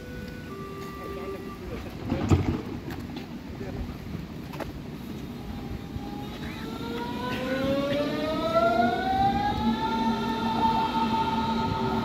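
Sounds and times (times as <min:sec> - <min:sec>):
electric train inverters whining: 0:00.0 - 0:03.4, 0:04.4 - 0:12.0.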